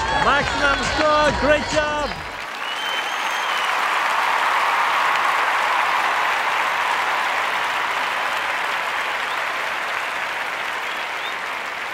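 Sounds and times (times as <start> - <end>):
crowd applauding: 0.0 - 11.9.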